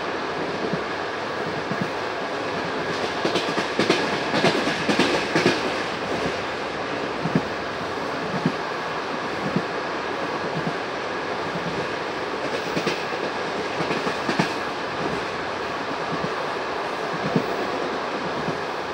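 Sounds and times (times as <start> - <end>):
train wheels rumbling on track: 0.0 - 18.9
clickety-clack over rail joints: 0.4 - 6.5, 7.1 - 8.6, 9.2 - 15.3, 16.0 - 16.4, 17.0 - 18.7.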